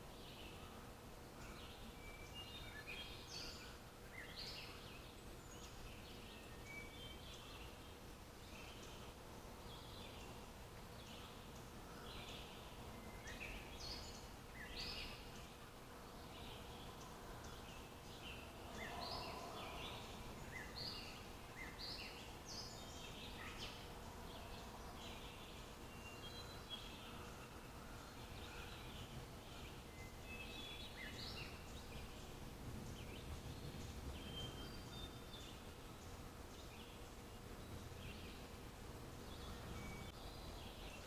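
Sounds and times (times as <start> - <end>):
faint outdoor rumble: 0.0 - 41.0
small birds chirping: 0.0 - 41.0.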